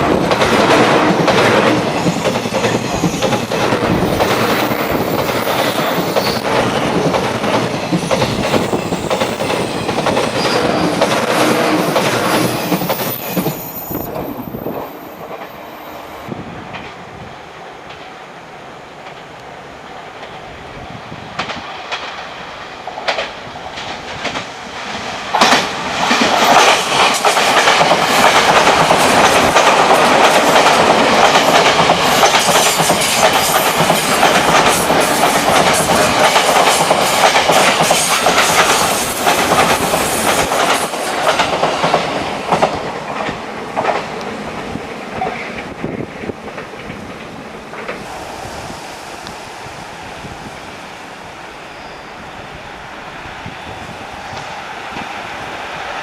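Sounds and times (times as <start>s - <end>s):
train wheels clacking: 0.0s - 15.6s, 22.9s - 52.1s.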